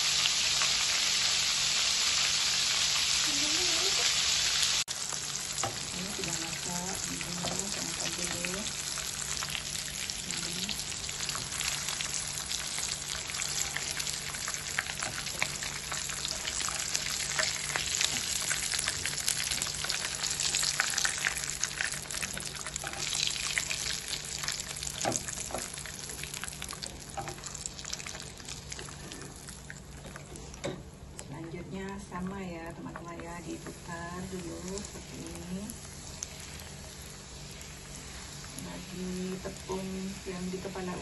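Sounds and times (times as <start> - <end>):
shrimp sizzling in hot oil: 0.0 - 41.0.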